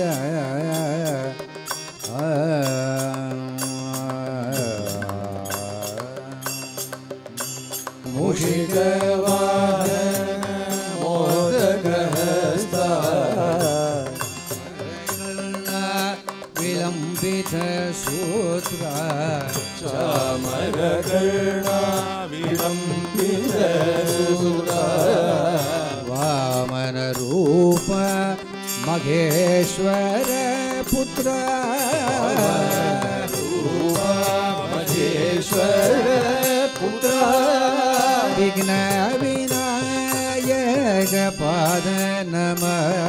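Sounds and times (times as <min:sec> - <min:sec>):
man singing devotional melody: 0:00.0 - 0:43.0.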